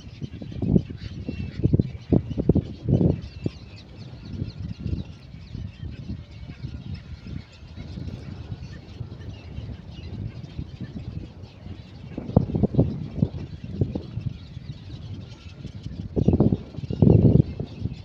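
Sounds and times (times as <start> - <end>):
chicks scratchy calls: 0.0 - 18.0.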